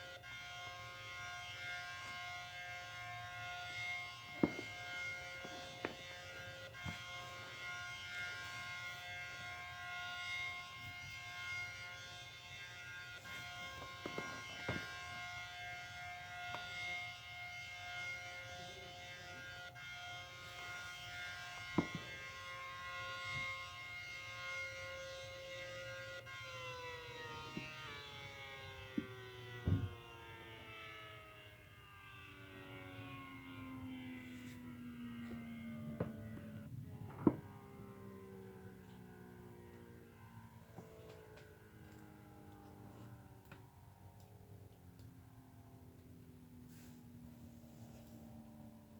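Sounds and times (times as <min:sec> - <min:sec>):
warning siren: 0:00.0 - 0:48.9.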